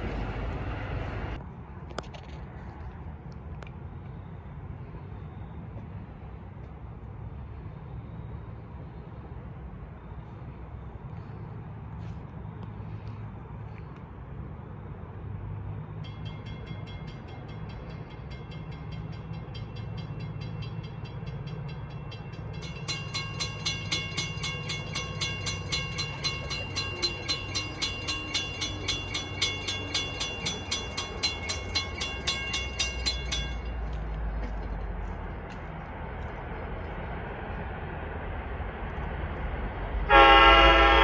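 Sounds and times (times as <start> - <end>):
train rumble: 0.0 - 41.0
crossing warning bells ringing: 3.8 - 35.6, 40.0 - 41.0.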